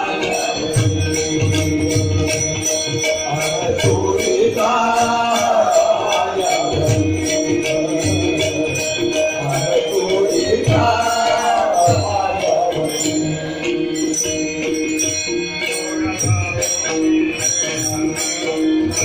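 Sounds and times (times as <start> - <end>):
hand cymbals clashing: 0.0 - 19.0.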